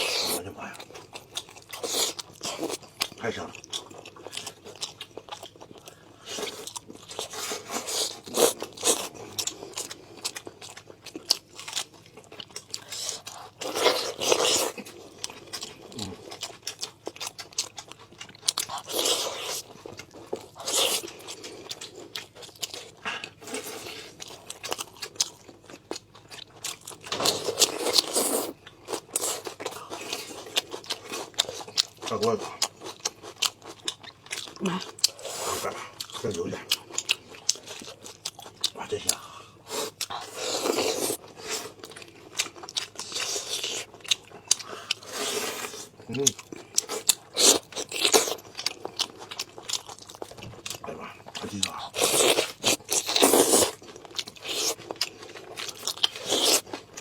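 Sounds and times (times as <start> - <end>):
person chewing and biting food: 0.0 - 57.0.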